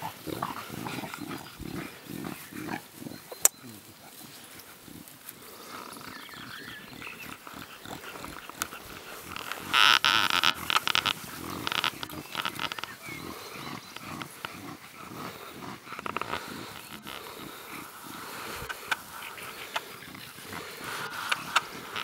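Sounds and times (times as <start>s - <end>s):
dogs and puppies vocalising: 0.0s - 22.0s.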